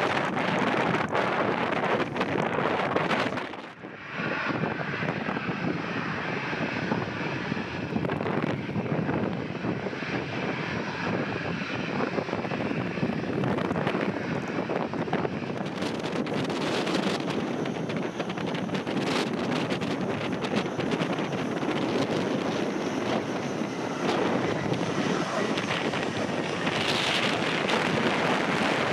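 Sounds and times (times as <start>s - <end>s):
jet engines whining: 0.0s - 28.9s.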